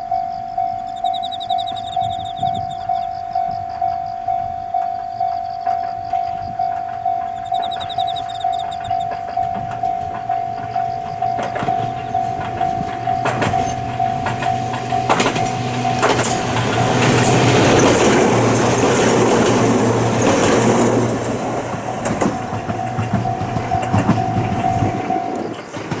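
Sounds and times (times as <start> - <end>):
pulsing alarm tone: 0.0 - 25.7
electric train passing: 0.0 - 26.0
wheels clicking over rail joints: 0.0 - 26.0.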